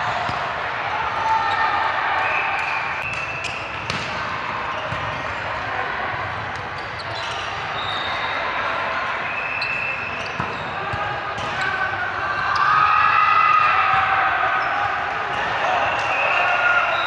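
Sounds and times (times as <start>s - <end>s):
voices in a large gym: 0.0s - 17.0s.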